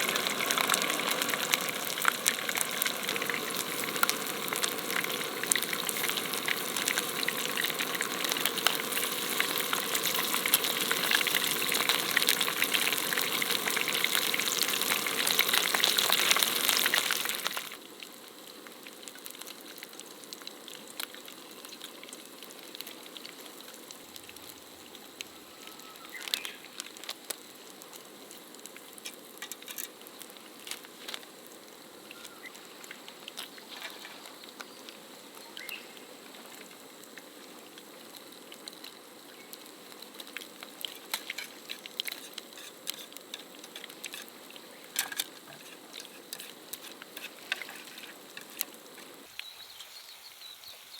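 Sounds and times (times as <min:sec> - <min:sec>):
food sizzling in hot oil: 0:00.0 - 0:50.9.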